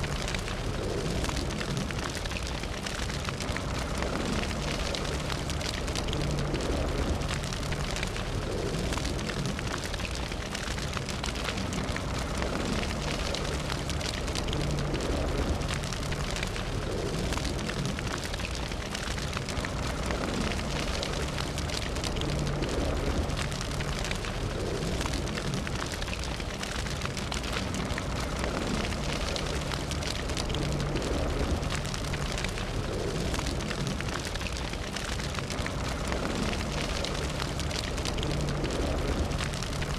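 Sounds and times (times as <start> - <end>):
fire crackling and roaring: 0.0 - 39.9.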